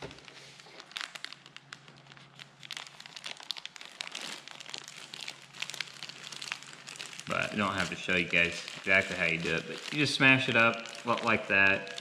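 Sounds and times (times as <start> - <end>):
grapes being crushed by hand: 0.0 - 12.0
plastic bag crinkling: 0.0 - 12.0.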